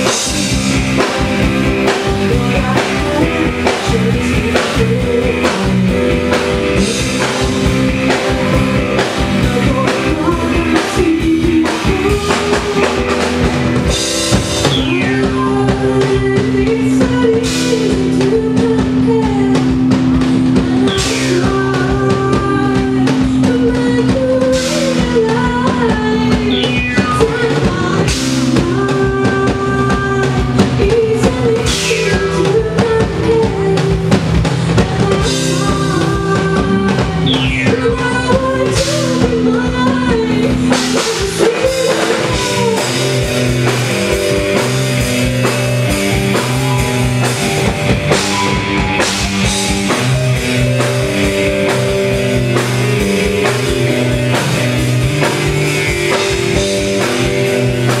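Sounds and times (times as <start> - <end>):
drum kit: 0.0 - 58.0
live band music: 0.0 - 58.0
person singing: 0.0 - 58.0.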